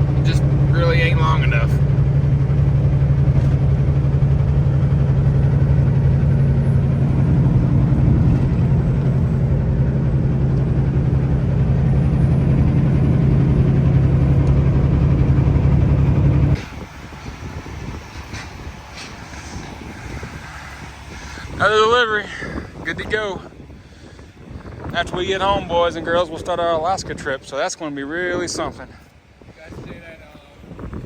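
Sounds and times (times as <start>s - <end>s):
truck diesel engine running: 0.0s - 31.0s
tyre and road noise: 0.0s - 31.0s.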